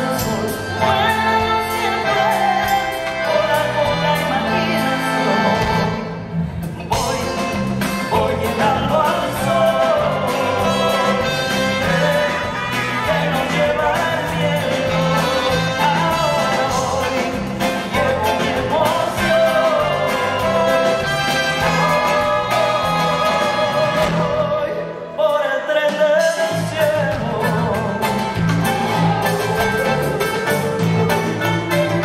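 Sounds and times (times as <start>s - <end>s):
live band playing: 0.0s - 32.0s.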